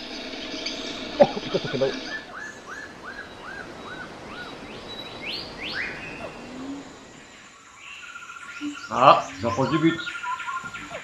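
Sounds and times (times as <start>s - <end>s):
bird singing: 0.0s - 11.0s
outdoor background noise: 0.0s - 11.0s.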